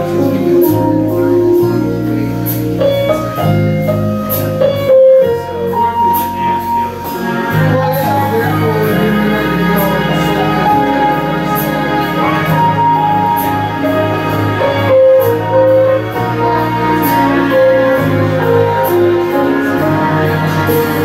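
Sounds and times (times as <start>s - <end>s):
instrumental backing track: 0.0s - 21.0s.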